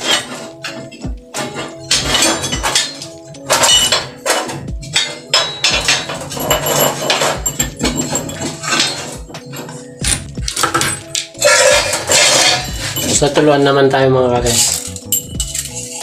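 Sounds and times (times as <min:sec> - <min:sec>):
steel tubing clanking: 0:00.0 - 0:13.8, 0:14.4 - 0:16.0
background music: 0:00.0 - 0:16.0.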